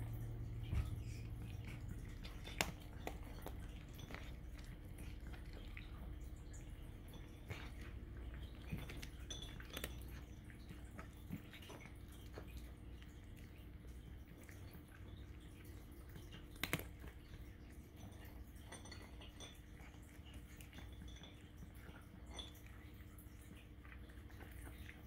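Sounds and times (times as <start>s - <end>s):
cat crunching dry kibble: 0.3s - 25.0s.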